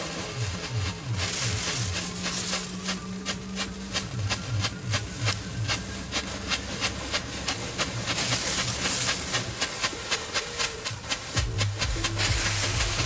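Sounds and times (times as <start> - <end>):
fireworks crackling and popping: 0.0 - 13.0
hiss of spraying sparks: 0.0 - 13.0.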